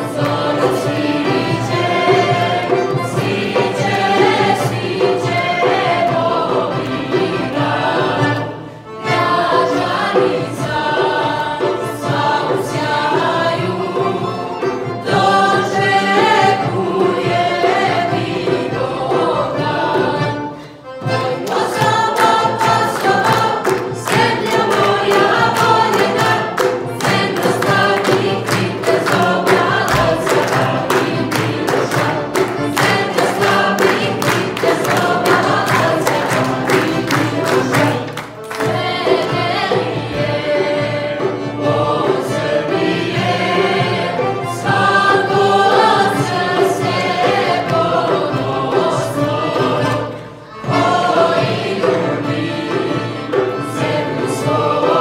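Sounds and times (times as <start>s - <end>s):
rhythmic hand clapping: 0.0s - 55.0s
vocal ensemble singing: 0.0s - 55.0s.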